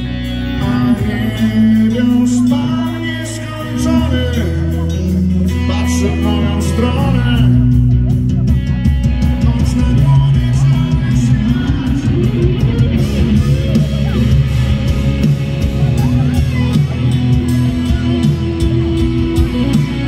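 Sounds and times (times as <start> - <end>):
bass guitar: 0.0 - 20.0
drums: 0.0 - 20.0
electric guitars: 0.0 - 20.0
male lead vocal: 0.0 - 20.0.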